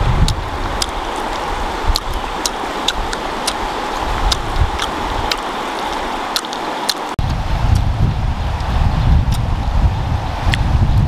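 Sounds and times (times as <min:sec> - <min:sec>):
river rushing over stones: 0:00.0 - 0:08.9.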